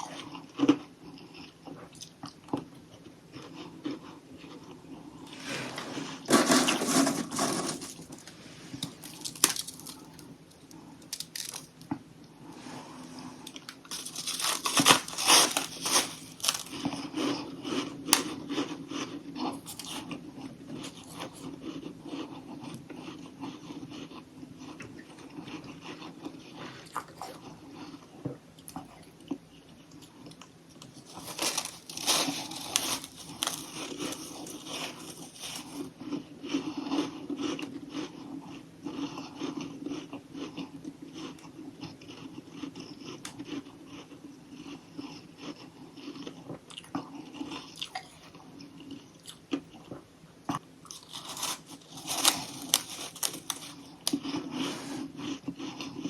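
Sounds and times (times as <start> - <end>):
crunching and chewing ice: 0.0 - 12.0, 13.5 - 56.0.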